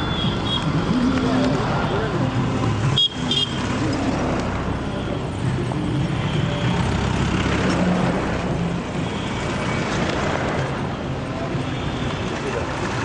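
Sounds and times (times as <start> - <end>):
dense street din: 0.0 - 13.0
vehicle engines running: 0.0 - 13.0.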